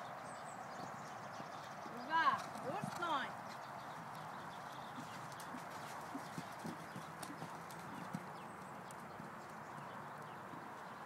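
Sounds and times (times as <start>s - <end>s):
horse hoofbeats on sand: 0.8s - 10.9s.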